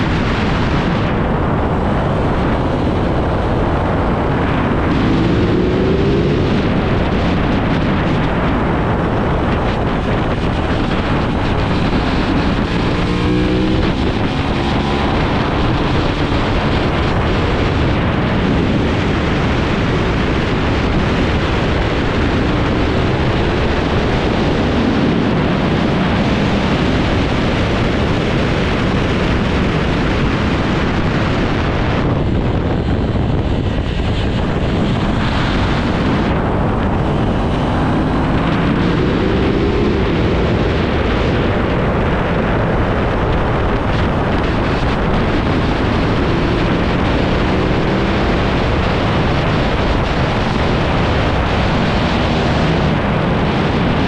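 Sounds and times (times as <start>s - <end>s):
motorcycle engine accelerating: 0.0s - 54.0s
wind rushing over microphone: 0.0s - 54.0s.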